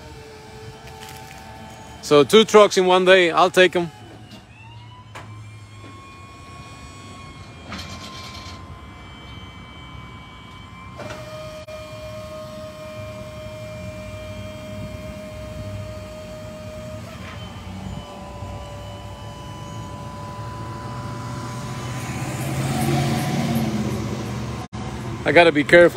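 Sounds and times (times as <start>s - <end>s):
hydraulic system whine: 0.0s - 25.9s.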